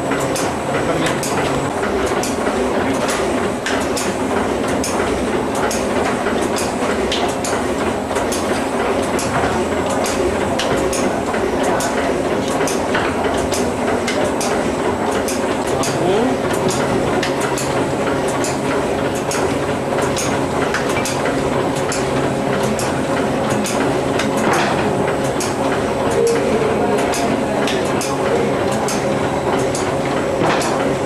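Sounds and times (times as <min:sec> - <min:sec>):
packaging machine humming: 0:00.0 - 0:31.0.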